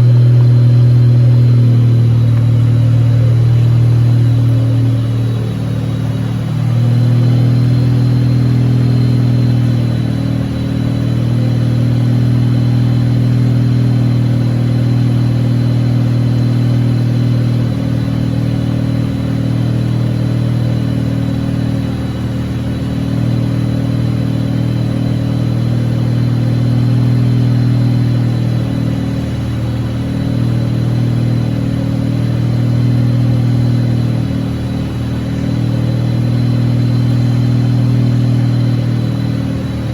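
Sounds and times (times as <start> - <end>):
faint high whine: 0.0 - 39.9
rotary engine running: 0.0 - 39.9.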